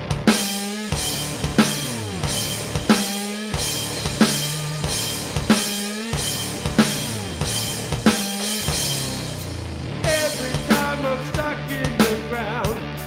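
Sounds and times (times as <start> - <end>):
bass guitar riff: 0.0 - 13.0
drum kit rock rhythm: 0.0 - 13.0.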